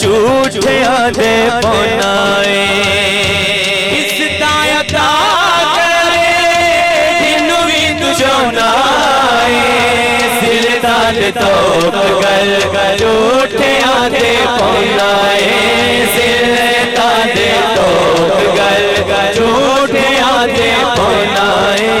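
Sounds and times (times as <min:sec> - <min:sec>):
man singing long melodic runs: 0:00.0 - 0:22.0
steady held notes: 0:00.0 - 0:22.0.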